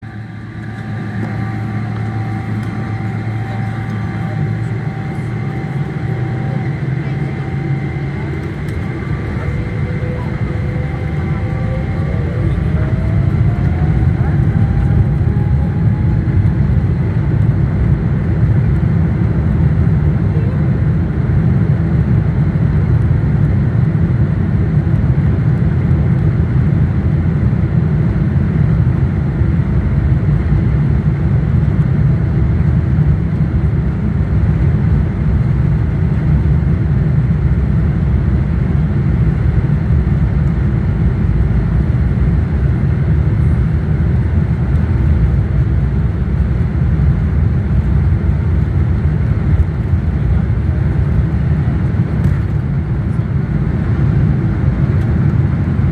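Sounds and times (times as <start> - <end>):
jet engines rumbling: 0.0 - 55.9.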